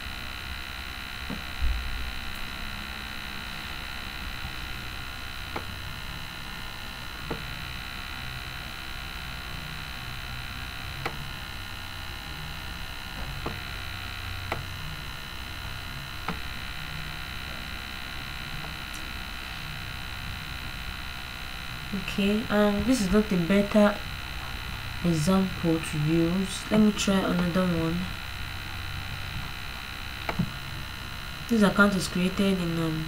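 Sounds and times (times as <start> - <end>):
electrical mains hum with hiss: 0.0 - 33.0.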